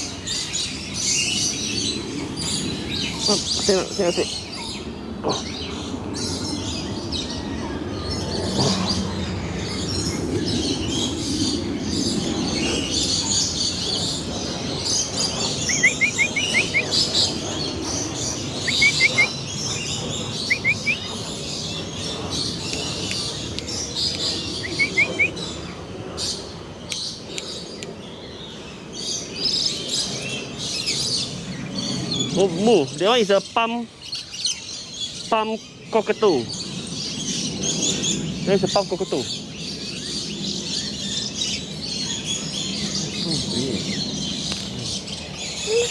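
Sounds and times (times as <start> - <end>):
birds chirping chorus: 0.0 - 45.9.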